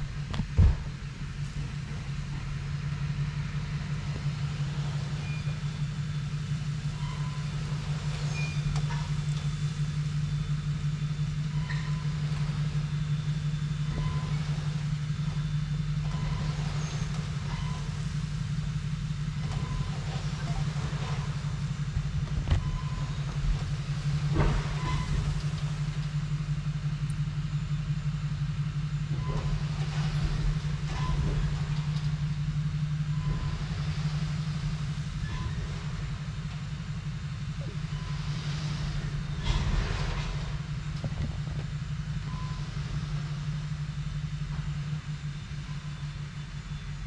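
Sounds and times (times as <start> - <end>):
truck engine droning: 0.0 - 47.0.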